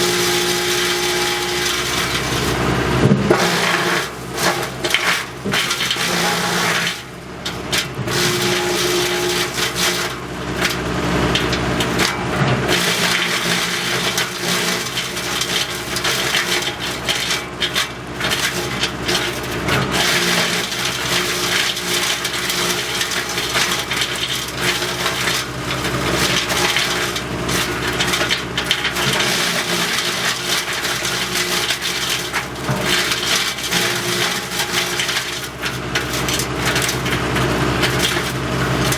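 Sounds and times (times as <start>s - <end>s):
wood chipper engine drone: 0.0s - 38.9s
wood crackling and crunching: 0.0s - 38.9s.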